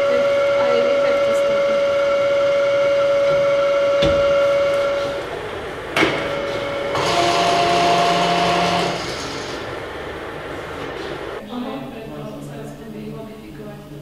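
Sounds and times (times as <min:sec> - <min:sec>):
machine whine with hiss: 0:00.0 - 0:11.4
high machine whine: 0:00.0 - 0:11.5.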